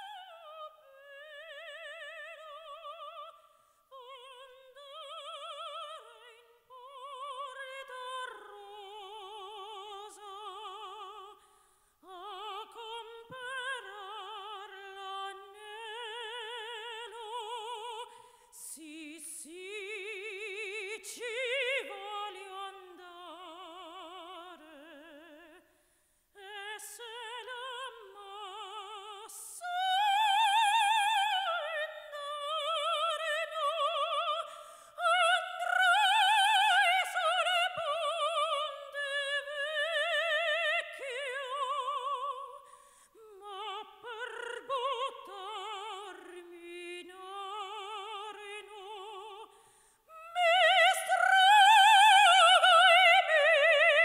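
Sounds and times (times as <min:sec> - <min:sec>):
soprano singing operatic: 0:00.0 - 0:25.7, 0:26.3 - 0:54.0.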